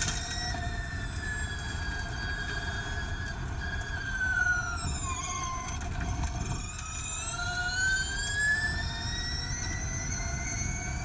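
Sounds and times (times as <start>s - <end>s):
electric race car motor whine: 0.0s - 11.0s.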